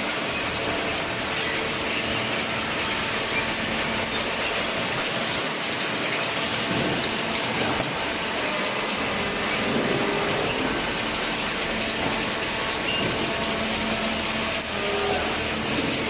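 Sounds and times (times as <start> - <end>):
mechanical noise rattling and clanking: 0.0 - 16.0.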